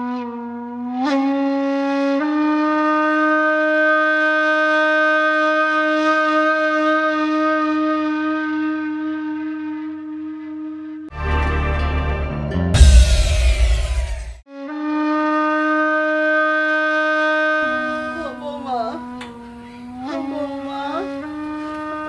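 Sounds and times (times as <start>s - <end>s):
long held wind instrument note: 2.3s - 22.0s.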